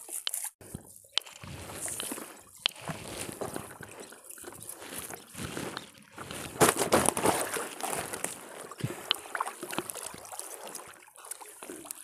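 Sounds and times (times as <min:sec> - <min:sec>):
water dripping and splashing: 0:00.3 - 0:12.0
wet net rustling: 0:01.3 - 0:11.9.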